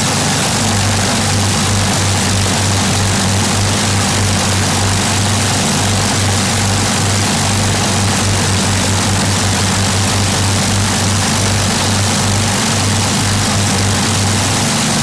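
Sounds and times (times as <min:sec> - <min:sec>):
propeller engines droning: 0:00.0 - 0:15.0.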